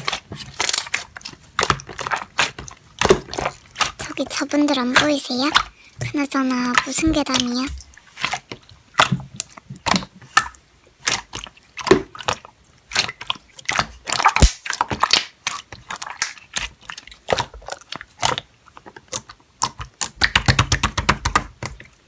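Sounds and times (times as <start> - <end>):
slime crunching and crackling: 0.0 - 22.0.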